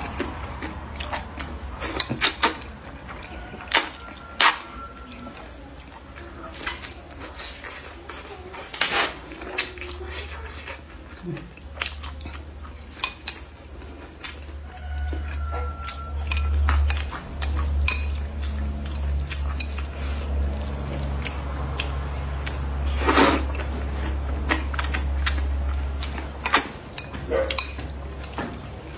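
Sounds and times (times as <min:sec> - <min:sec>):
chewing: 0:00.0 - 0:28.9.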